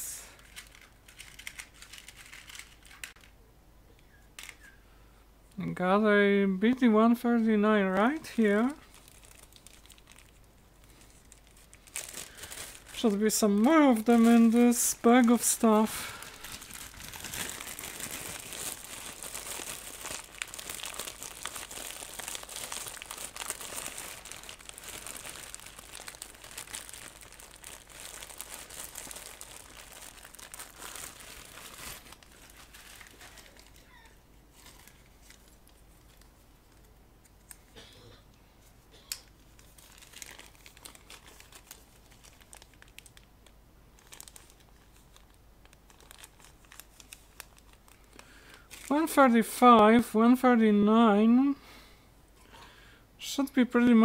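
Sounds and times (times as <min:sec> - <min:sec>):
plastic bag crinkling: 0:00.2 - 0:03.3, 0:07.4 - 0:37.6, 0:39.3 - 0:43.3, 0:44.0 - 0:50.1.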